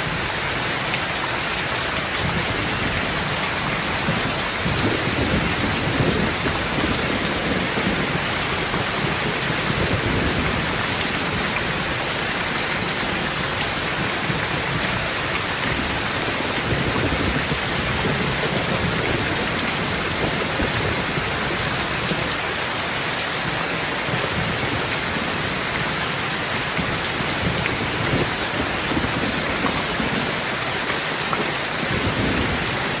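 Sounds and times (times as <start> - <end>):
heavy rain: 0.0 - 33.0
thunder rumbling: 2.2 - 22.4, 24.0 - 30.5.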